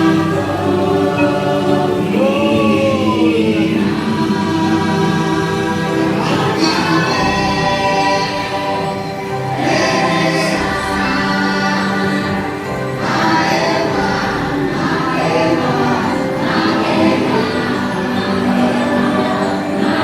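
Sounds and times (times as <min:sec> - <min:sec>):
choir singing held chords: 0:00.0 - 0:20.0
instrumental accompaniment: 0:00.0 - 0:20.0.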